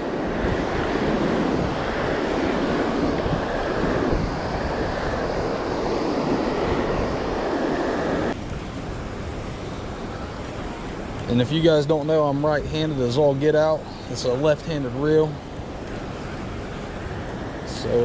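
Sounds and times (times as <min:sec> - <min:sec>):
river water rushing: 0:00.0 - 0:18.0
wind: 0:00.0 - 0:18.0.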